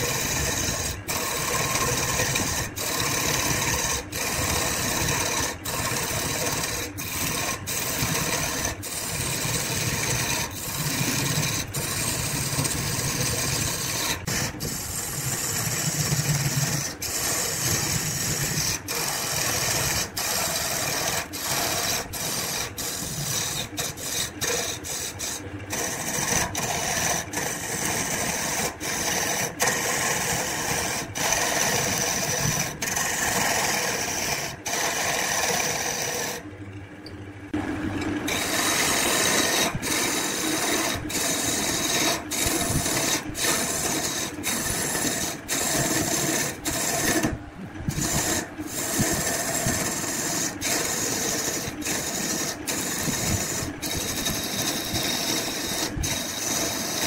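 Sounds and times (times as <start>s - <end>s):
wood lathe cutting wood: 0.0s - 36.4s, 37.8s - 57.0s.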